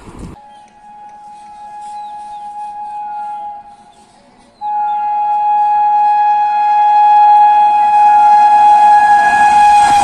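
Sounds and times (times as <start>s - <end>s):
locomotive air horn blast: 0.4s - 10.0s.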